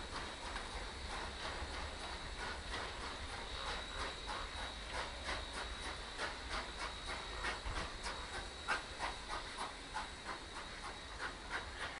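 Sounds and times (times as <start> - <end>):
steam hissing: 0.0 - 12.0
steam locomotive chuffing: 0.0 - 12.0.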